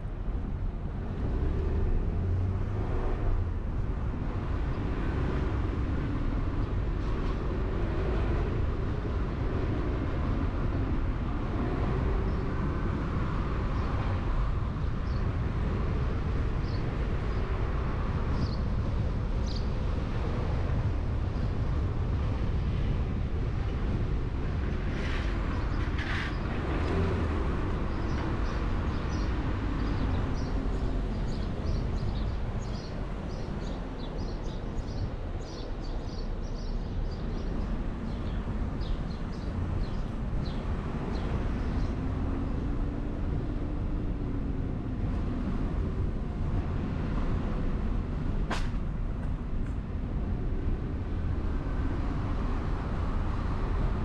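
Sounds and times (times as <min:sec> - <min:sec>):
road and wind noise rumble: 0:00.0 - 0:54.0.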